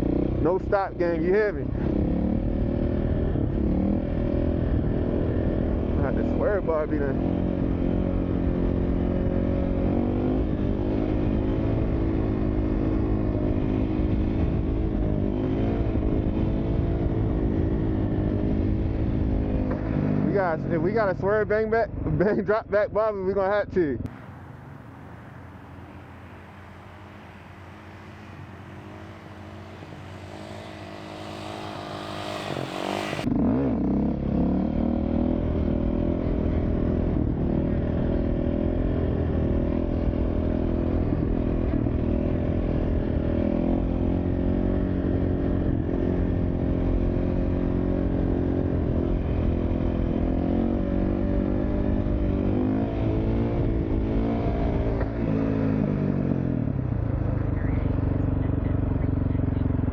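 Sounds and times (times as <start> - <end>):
dirt bike engine: 0.0 - 22.5, 24.1 - 56.2.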